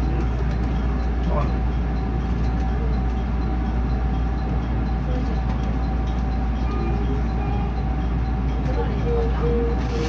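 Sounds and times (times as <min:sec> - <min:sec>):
electric train humming: 0:00.0 - 0:10.0.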